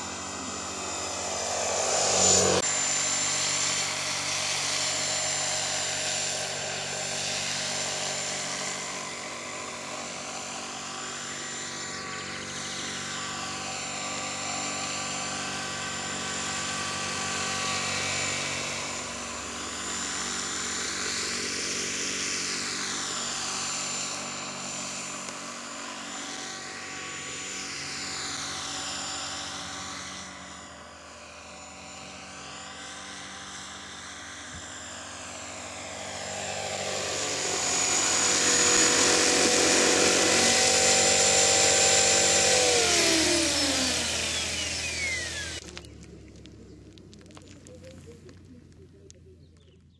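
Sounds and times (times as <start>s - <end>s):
rotor blades rushing: 0.0s - 46.8s
rc helicopter motor whine: 0.0s - 48.8s.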